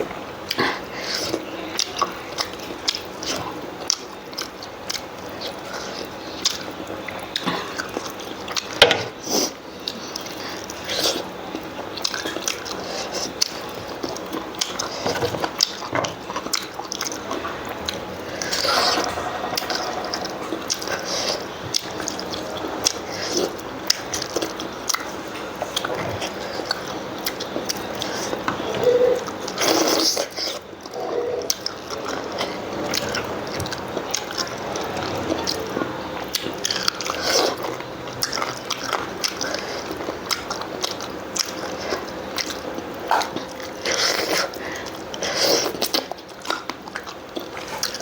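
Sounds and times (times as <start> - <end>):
chewing and wet mouth smacks: 1.2 - 19.1, 20.1 - 48.0.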